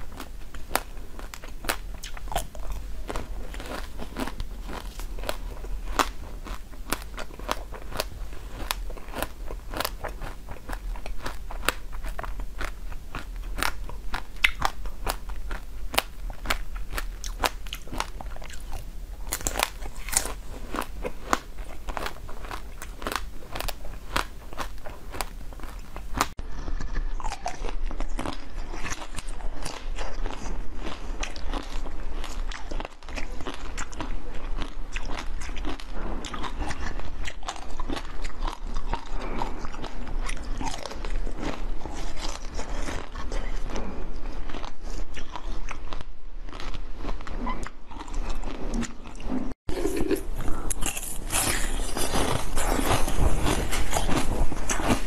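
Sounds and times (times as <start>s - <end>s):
crunching frozen chocolate: 0.0s - 49.2s, 49.8s - 55.0s
biting and chewing chocolate bars: 0.0s - 55.0s.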